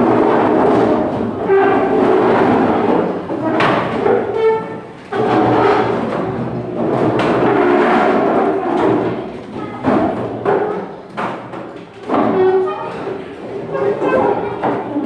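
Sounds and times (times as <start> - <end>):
desks and chairs scraping: 0.0 - 15.0
hubbub of children's voices: 0.0 - 15.0.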